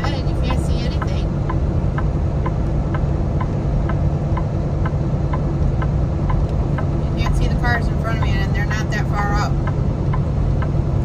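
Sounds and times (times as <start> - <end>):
sharp repeating tick: 0.0 - 8.4, 9.4 - 11.0
truck engine and road rumble: 0.0 - 11.0.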